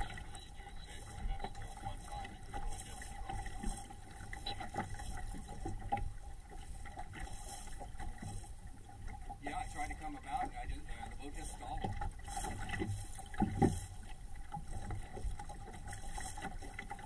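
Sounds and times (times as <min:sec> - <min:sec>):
water splashing along hull: 0:00.0 - 0:17.0.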